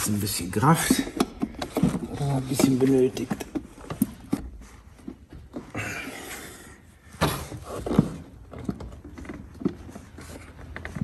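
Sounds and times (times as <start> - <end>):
plastic rubbing and scraping: 0.0 - 5.7, 7.3 - 11.0.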